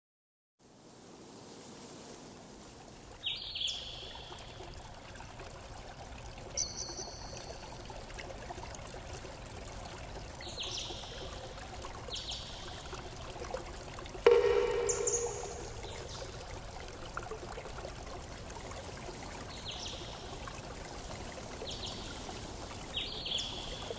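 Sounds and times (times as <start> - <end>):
running water: 0.7 - 23.9.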